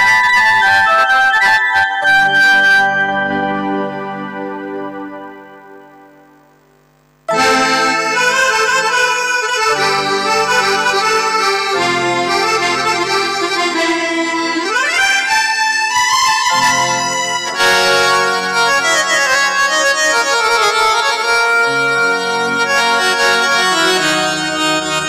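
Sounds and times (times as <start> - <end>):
synthesizer accordion melody: 0.0 - 6.7, 7.3 - 25.0.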